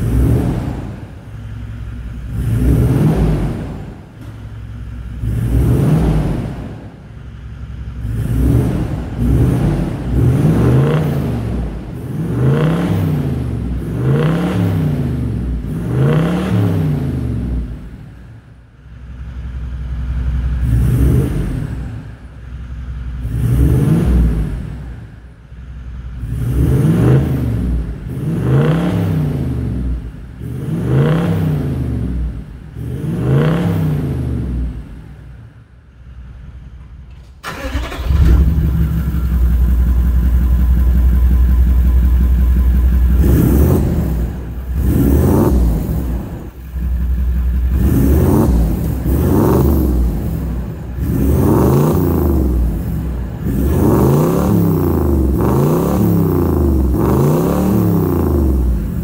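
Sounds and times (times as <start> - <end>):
diesel engine revving and idling: 0.0 - 59.0.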